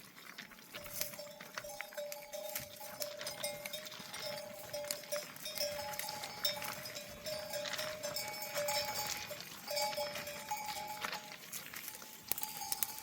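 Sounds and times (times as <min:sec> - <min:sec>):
sheep bells clanking: 0:00.7 - 0:13.0.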